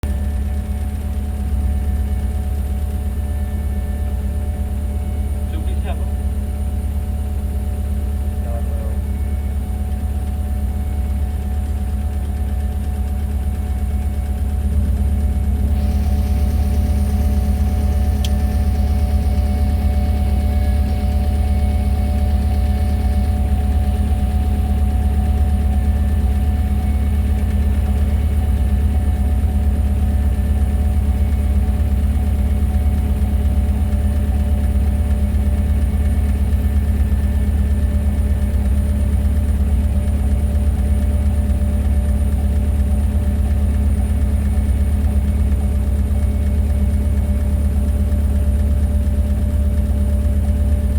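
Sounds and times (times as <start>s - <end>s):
low engine drone: 0.0s - 50.9s
faint high whining tones: 0.1s - 50.9s.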